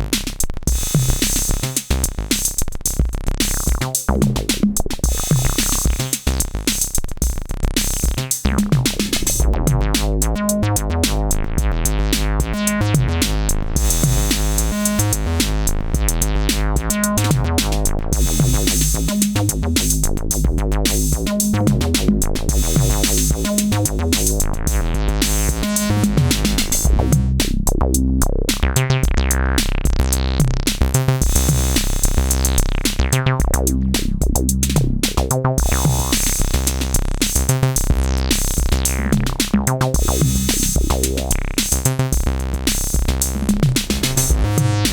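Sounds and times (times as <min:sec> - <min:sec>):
drum machine beat: 0:00.0 - 0:44.9
synth bass pattern: 0:00.0 - 0:44.9.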